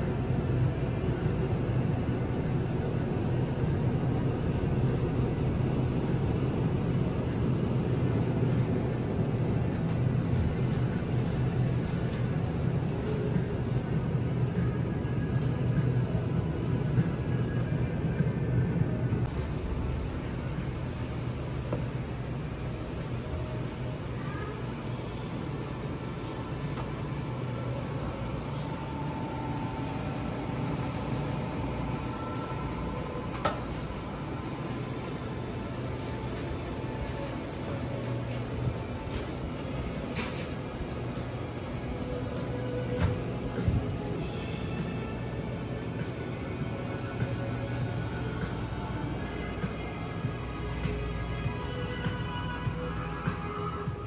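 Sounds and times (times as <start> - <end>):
refrigerated display cases humming: 0.0 - 54.0.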